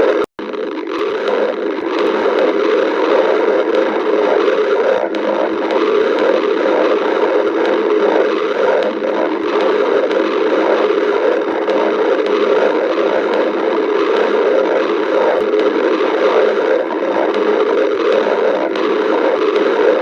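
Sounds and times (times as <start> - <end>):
stomach growling: 0.0 - 20.0.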